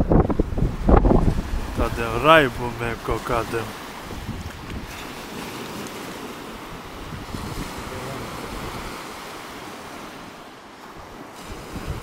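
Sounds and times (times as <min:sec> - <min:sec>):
surf washing onto beach: 0:00.0 - 0:12.0
wind gusting on microphone: 0:00.0 - 0:12.0.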